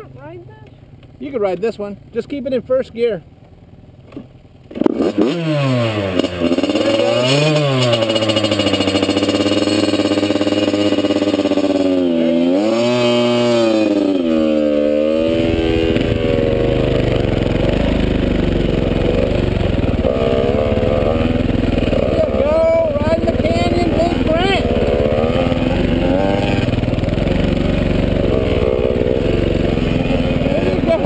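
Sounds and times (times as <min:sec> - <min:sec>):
dirt bike engines revving: 0:00.0 - 0:03.3, 0:04.6 - 0:31.0.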